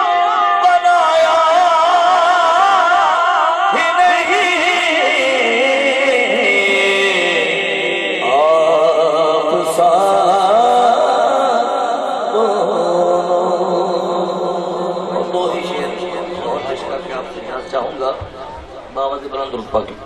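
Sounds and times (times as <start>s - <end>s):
person singing unaccompanied: 0.0s - 16.9s.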